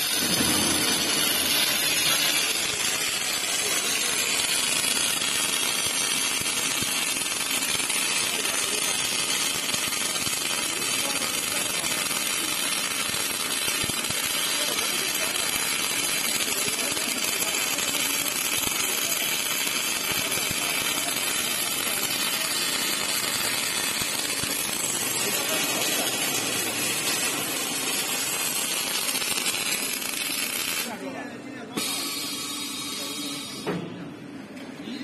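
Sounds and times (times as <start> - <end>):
welding arc crackling: 0.0 - 31.2, 31.8 - 33.6.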